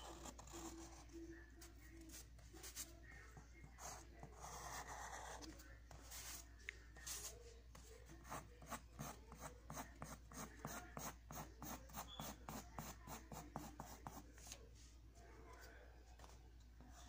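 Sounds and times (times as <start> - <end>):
pencil scratching on paper: 0.0 - 14.6.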